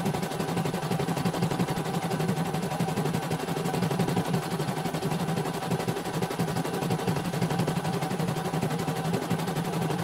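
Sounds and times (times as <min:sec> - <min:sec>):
steady motor hum: 0:00.0 - 0:10.0.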